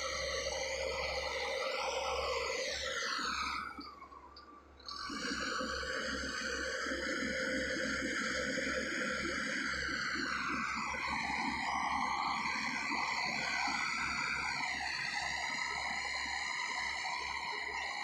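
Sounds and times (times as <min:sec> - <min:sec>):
heavy machinery engine whine: 0:00.0 - 0:18.0.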